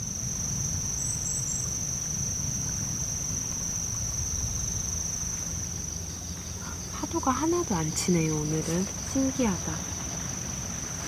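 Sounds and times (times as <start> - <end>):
insects trilling: 0.0 - 11.0
low steady rumble: 0.0 - 11.0.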